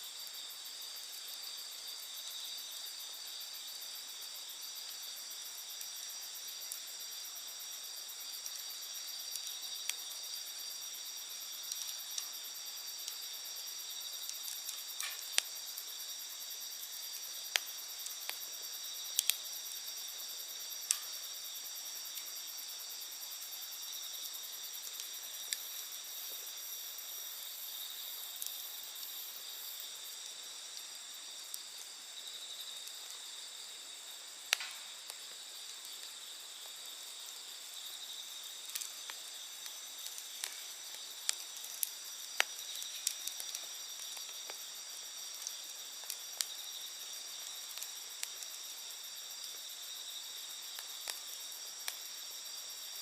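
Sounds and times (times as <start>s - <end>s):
night insects chirring: 0.0s - 53.0s
campfire popping and crackling: 0.1s - 53.0s.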